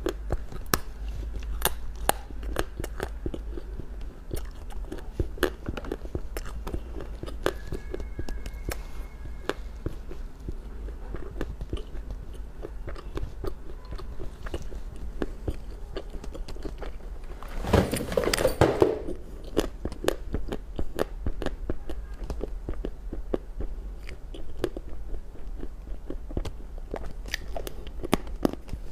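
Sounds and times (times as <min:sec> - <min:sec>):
chewing and crunching food: 0:00.0 - 0:17.4, 0:19.1 - 0:28.9.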